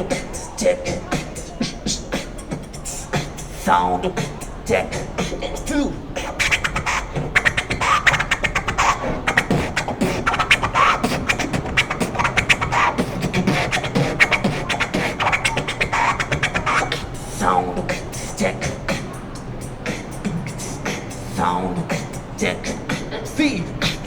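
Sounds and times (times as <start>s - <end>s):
person beatboxing: 0.0s - 24.0s.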